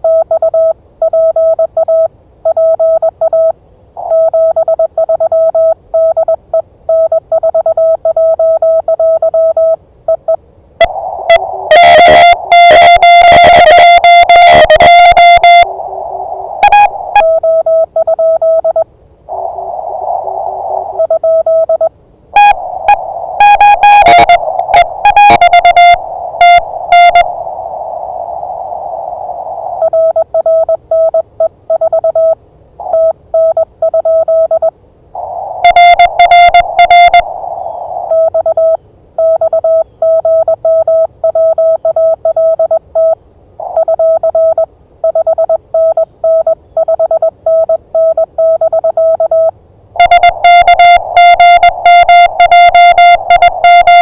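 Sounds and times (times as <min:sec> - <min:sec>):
morse code keyed tones: 0:00.0 - 0:15.7, 0:16.6 - 0:18.8, 0:20.9 - 0:27.6, 0:29.7 - 0:54.0
receiver hiss: 0:00.0 - 0:54.0.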